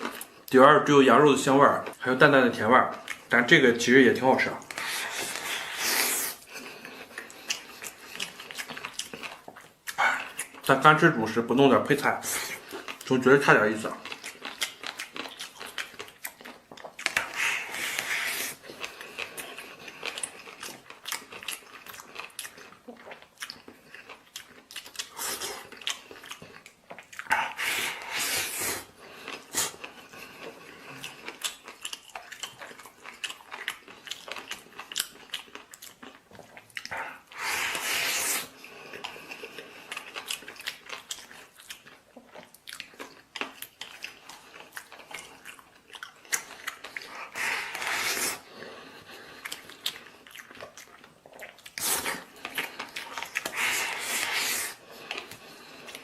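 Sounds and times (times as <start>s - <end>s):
person chewing crunchy food: 0.0s - 0.6s, 1.4s - 11.2s, 12.0s - 56.0s.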